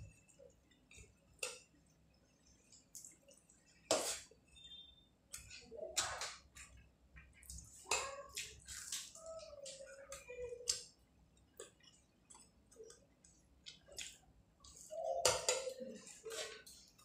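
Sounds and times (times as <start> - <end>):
wet squishing of rice: 0.0 - 17.0.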